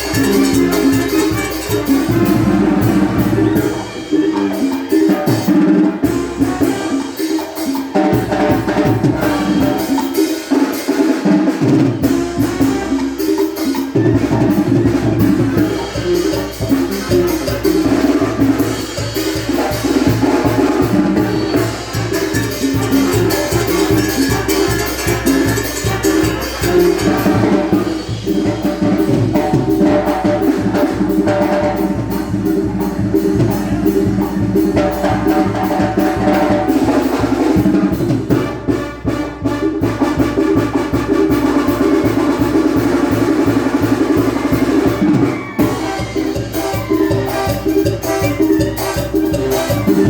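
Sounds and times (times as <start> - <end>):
brass band playing: 0.0 - 50.0
percussion beat: 0.0 - 50.0.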